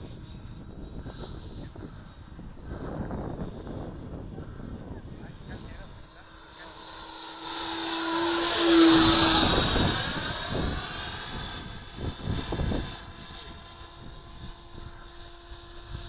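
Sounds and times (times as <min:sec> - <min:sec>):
model jet fan whining: 0:00.0 - 0:16.0.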